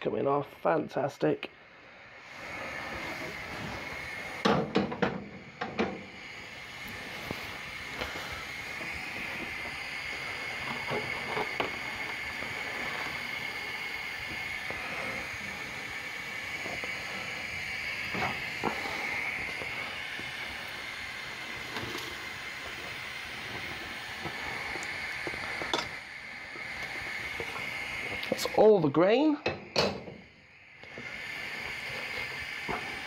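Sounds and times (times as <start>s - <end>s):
steady hiss: 0.0s - 33.0s.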